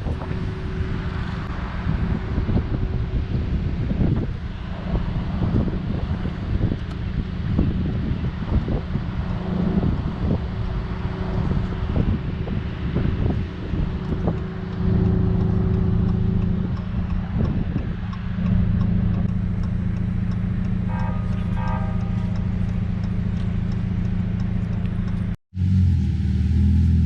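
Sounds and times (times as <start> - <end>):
car engine droning: 0.0 - 27.0.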